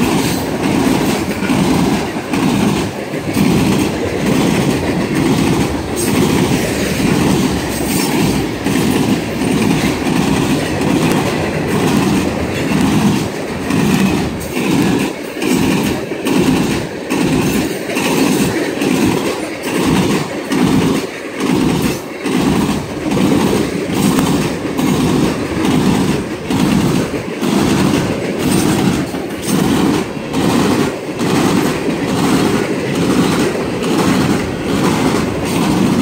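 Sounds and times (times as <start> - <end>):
train wheels clattering over rails: 0.0 - 36.0.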